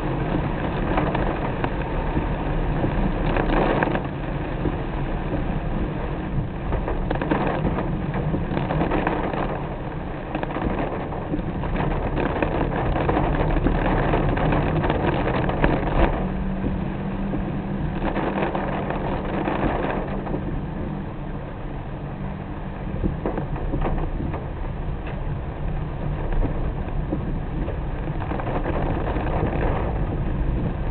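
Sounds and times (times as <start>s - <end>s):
car engine and road noise: 0.0s - 30.9s
rain and wet tyres hissing: 0.0s - 30.9s.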